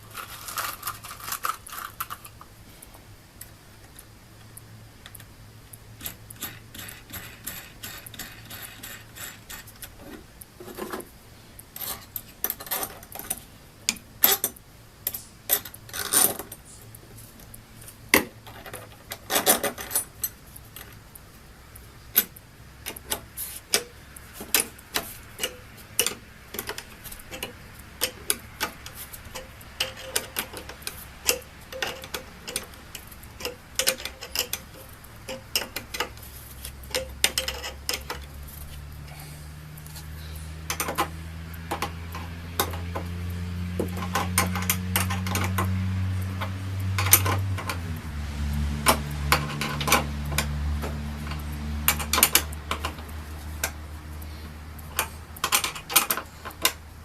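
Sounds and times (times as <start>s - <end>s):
metal bolts and nuts clinking: 0.1s - 2.4s, 6.0s - 11.1s, 11.8s - 13.4s, 14.2s - 16.8s, 18.1s - 21.0s, 22.2s - 38.8s, 39.8s - 43.1s, 43.8s - 48.0s, 48.8s - 53.8s, 54.8s - 56.8s.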